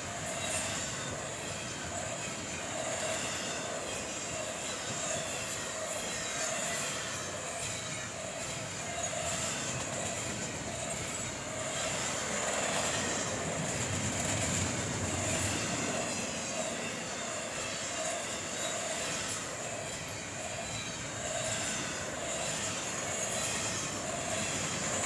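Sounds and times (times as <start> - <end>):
steel wheels rumbling on rails: 0.0 - 25.0.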